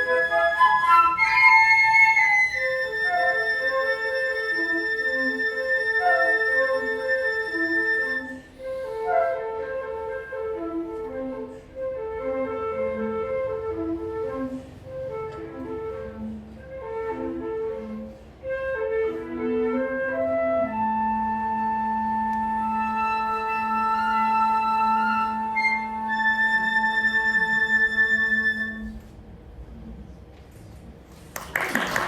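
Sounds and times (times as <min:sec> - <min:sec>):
flute trio playing: 0:00.0 - 0:29.3.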